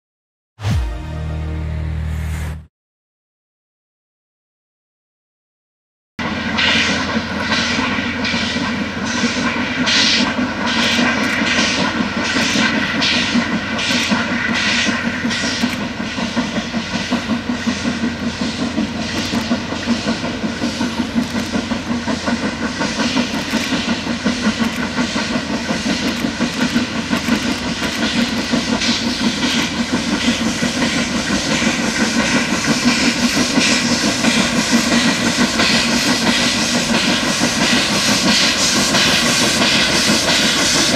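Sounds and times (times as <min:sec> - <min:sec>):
steam locomotive chuffing: 0:06.2 - 0:40.9.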